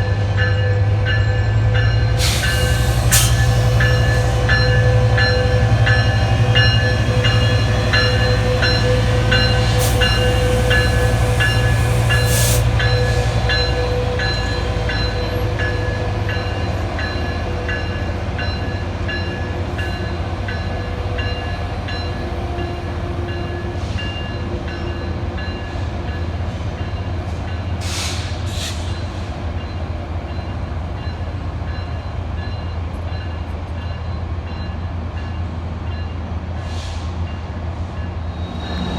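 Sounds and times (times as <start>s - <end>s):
train bell ringing: 0.0s - 27.8s, 28.9s - 36.2s
train rumble: 0.0s - 38.9s.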